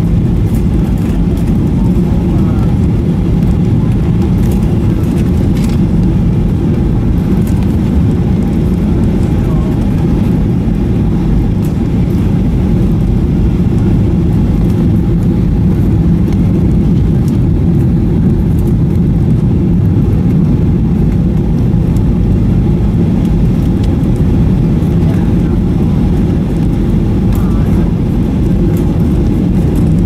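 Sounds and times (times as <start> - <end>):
airplane cabin engine roar: 0.0 - 30.0.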